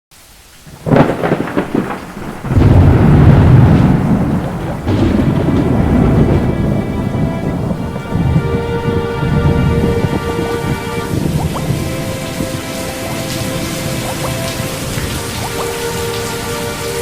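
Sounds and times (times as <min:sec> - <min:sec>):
rain: 0:00.1 - 0:17.0
low rumble of thunder: 0:00.7 - 0:17.0
sharp thunderclap: 0:00.7 - 0:17.0.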